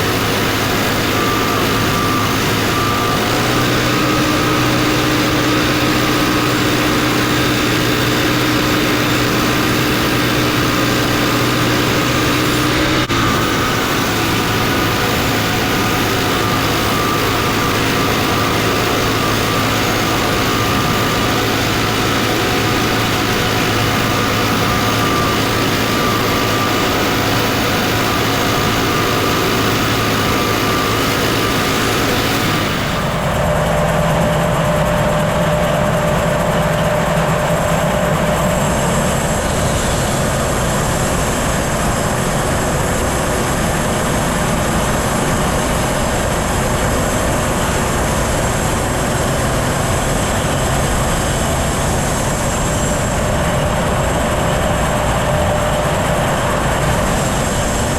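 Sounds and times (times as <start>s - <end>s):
sawmill engine running: 0.0s - 57.9s.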